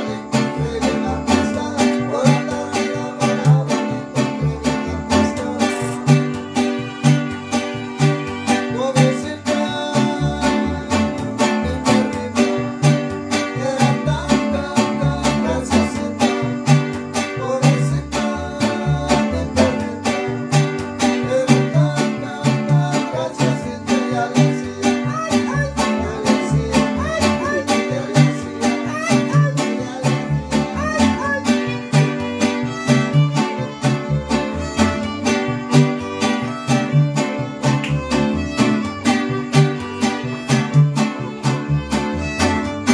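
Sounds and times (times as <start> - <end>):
guitars strummed quickly: 0.0 - 42.9.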